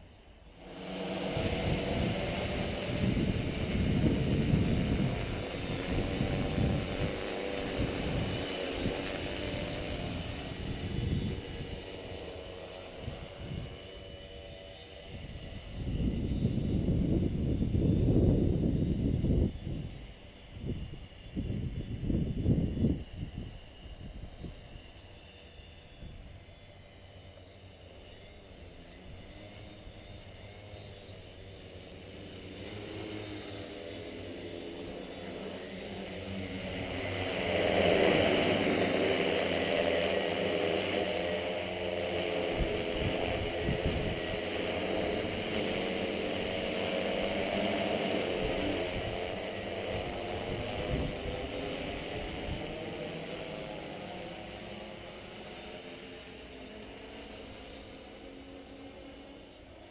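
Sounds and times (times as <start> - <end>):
drone motors and propellers humming: 0.0 - 59.9.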